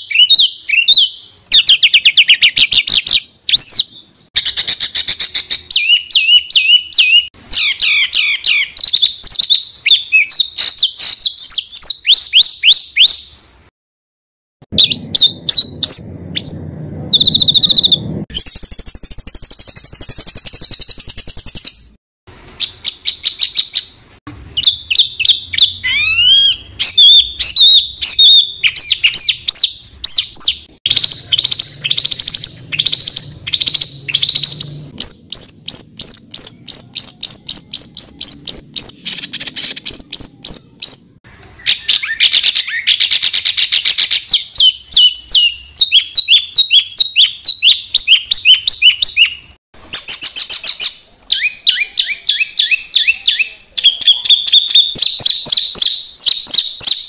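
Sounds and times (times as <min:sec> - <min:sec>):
songbird calls and trills: 0:00.0 - 0:13.4, 0:24.6 - 0:57.0.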